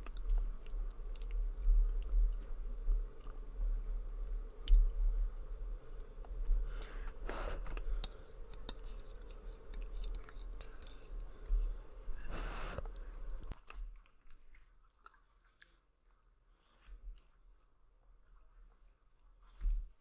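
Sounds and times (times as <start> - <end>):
chewing noodles with mouth clicks: 0.0 - 16.3.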